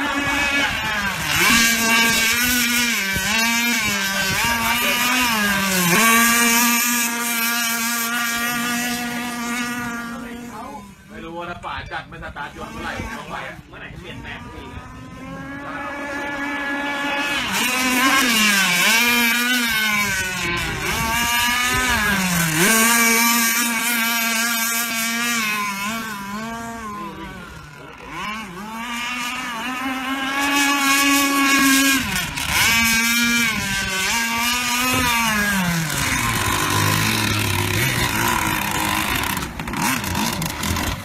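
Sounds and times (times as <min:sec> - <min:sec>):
model boat engine revving: 0:00.0 - 0:41.0.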